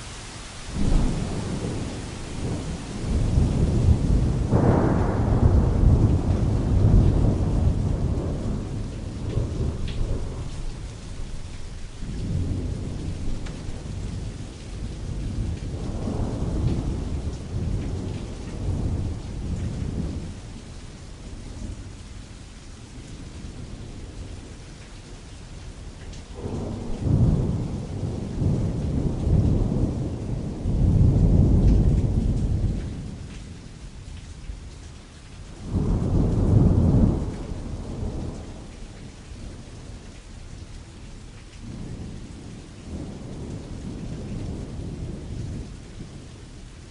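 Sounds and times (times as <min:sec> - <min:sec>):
rain on canvas: 0:00.0 - 0:46.9
rolling thunder: 0:00.7 - 0:22.2, 0:25.8 - 0:34.7, 0:35.4 - 0:46.9.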